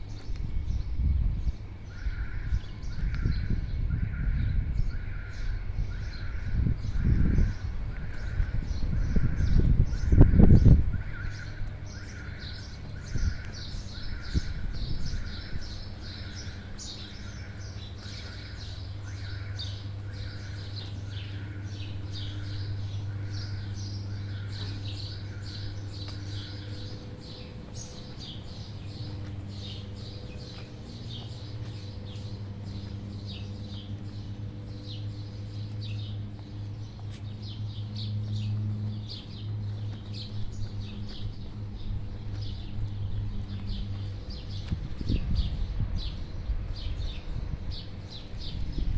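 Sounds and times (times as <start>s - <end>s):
steady low hum: 0.0s - 48.9s
small birds chirping: 4.3s - 48.9s.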